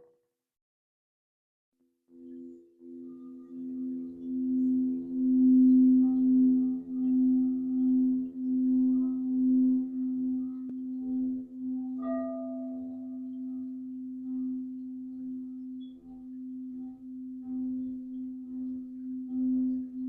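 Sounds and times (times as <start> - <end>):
singing bowl low hum: 2.1 - 20.0.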